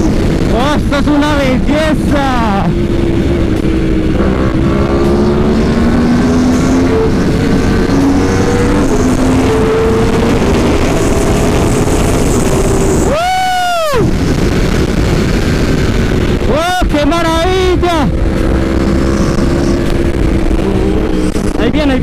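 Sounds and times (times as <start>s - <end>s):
motorcycle engine accelerating: 0.0s - 22.0s
wind rush: 0.0s - 22.0s.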